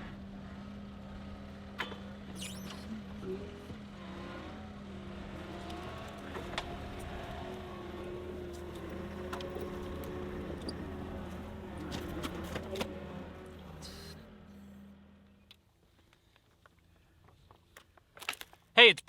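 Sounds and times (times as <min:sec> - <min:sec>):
engine running steadily: 0:00.0 - 0:17.8.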